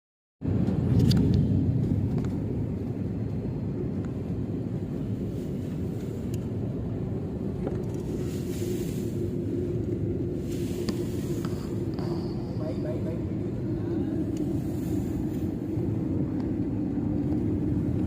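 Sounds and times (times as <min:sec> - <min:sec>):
airliner landing rumble: 0:00.4 - 0:18.0.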